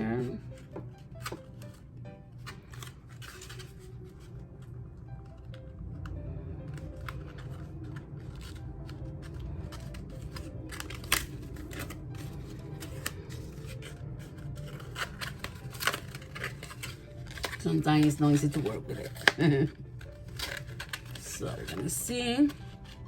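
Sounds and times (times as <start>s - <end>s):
adhesive paper crinkling: 0.0s - 23.0s
low background hum: 0.0s - 23.0s.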